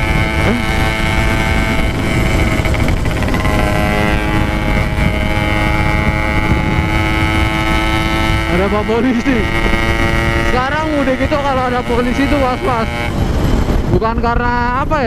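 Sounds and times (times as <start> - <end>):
motorcycle engine cruising: 0.0 - 15.0
wind rumble on microphone: 0.0 - 15.0.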